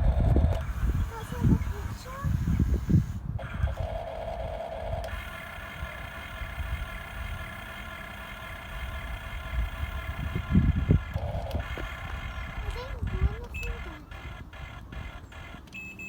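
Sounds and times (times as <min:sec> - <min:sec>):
small electric motor whining: 0:00.0 - 0:16.0.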